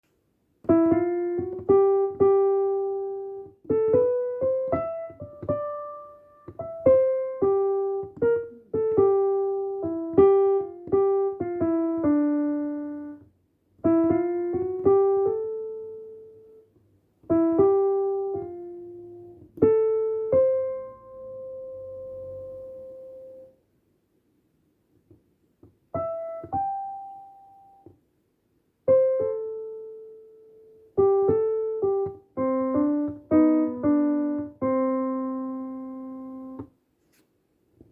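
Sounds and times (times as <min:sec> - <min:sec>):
electronic keyboard piano melody: 0:00.6 - 0:23.6, 0:25.9 - 0:28.0, 0:28.8 - 0:36.8.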